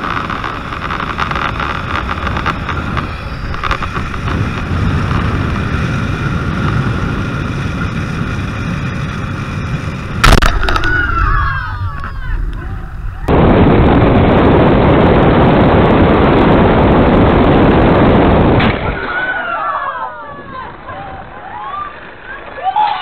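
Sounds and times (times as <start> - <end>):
wind rumble on microphone: 0.0 - 22.6.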